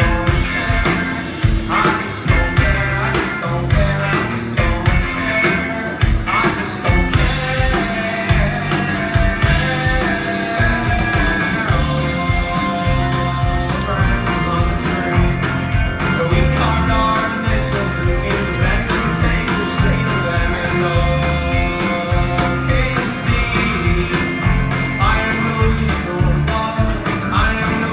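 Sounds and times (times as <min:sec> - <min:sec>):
drum beat: 0:00.0 - 0:27.9
guitar: 0:00.0 - 0:27.9
person singing: 0:00.0 - 0:27.9.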